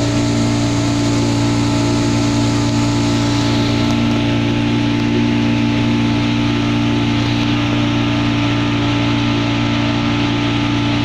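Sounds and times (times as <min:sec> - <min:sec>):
boat engine running: 0:00.0 - 0:11.0
water churning in wake: 0:00.0 - 0:11.0.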